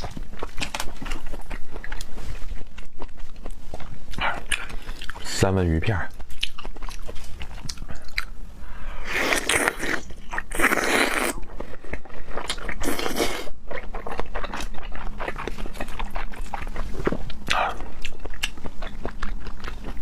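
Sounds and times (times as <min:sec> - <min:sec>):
wet chewing and mouth clicks: 0:00.0 - 0:05.3, 0:06.1 - 0:08.4, 0:09.3 - 0:20.0.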